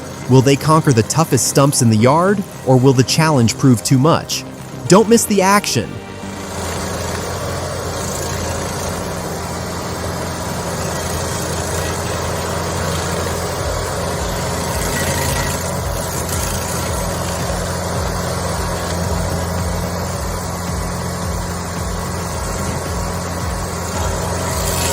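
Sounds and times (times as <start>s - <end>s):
low throb: 0.0s - 24.9s
stump grinder engine running: 0.0s - 24.9s.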